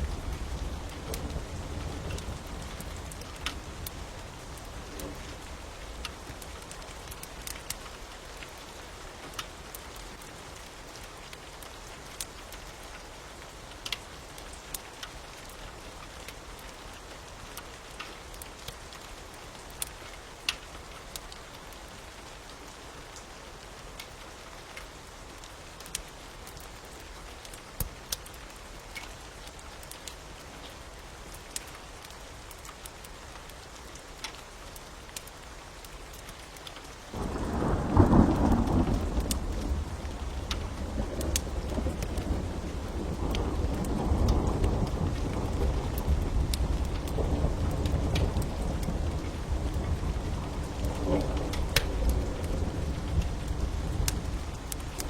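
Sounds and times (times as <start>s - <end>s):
fire crackling and popping: 0.0s - 13.1s, 13.7s - 21.6s, 24.8s - 30.2s, 31.3s - 55.0s
steady rain hiss: 0.0s - 55.0s.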